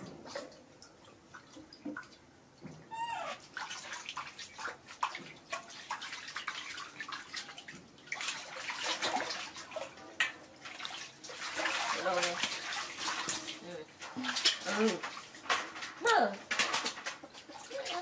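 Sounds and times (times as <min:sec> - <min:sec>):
water splashing in metal basin: 0:03.4 - 0:18.0.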